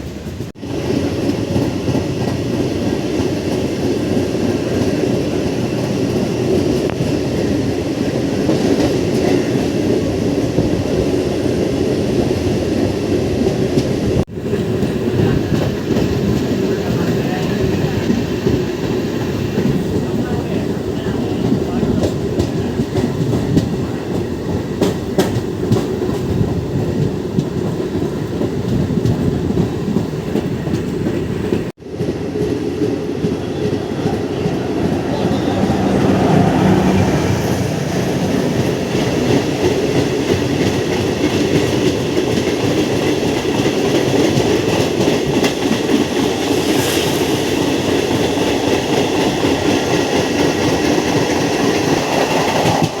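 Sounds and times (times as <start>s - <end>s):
train wheels clattering over rails: 0.0s - 53.0s.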